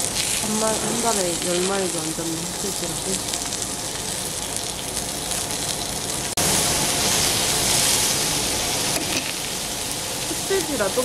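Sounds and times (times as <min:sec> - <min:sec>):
meat sizzling on grill: 0:00.0 - 0:11.0.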